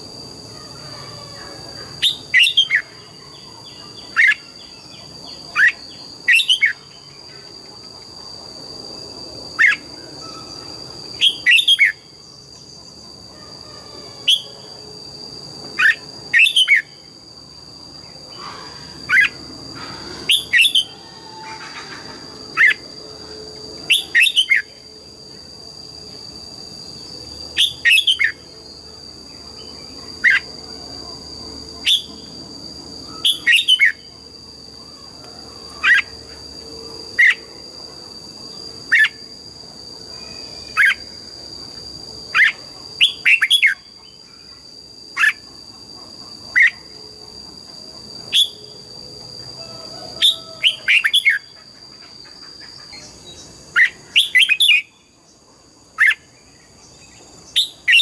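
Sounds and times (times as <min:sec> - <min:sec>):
steady high-pitched whine: 0:00.0 - 0:58.0.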